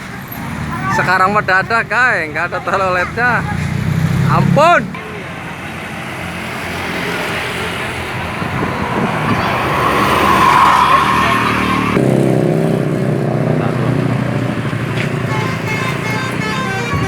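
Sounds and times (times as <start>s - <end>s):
bus passing: 0.0s - 17.0s
bus engine drone: 2.2s - 17.0s.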